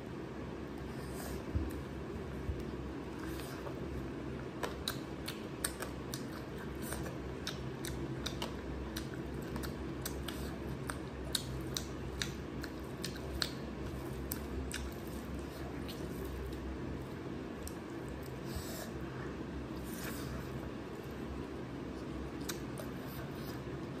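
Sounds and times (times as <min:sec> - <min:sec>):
steady low hum: 0:00.0 - 0:24.0
chewing and hand mixing clicks: 0:01.6 - 0:18.5, 0:20.0 - 0:24.0.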